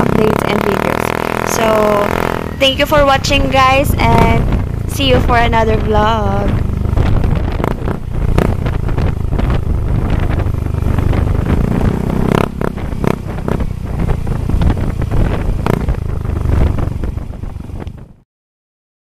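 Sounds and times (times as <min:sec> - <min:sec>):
scooter engine rumbling with crackles: 0:00.0 - 0:18.2.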